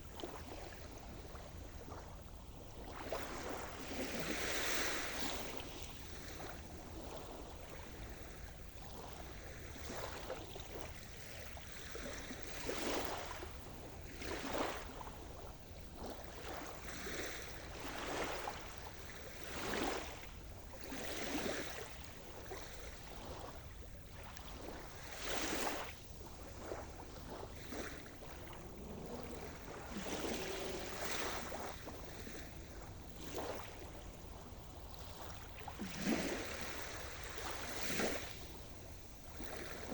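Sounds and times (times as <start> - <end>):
small waves breaking: 0.0 - 39.9.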